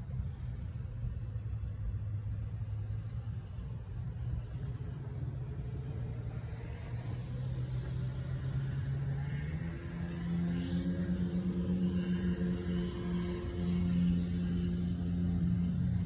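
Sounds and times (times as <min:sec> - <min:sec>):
car engine rough idle: 0:00.0 - 0:16.0.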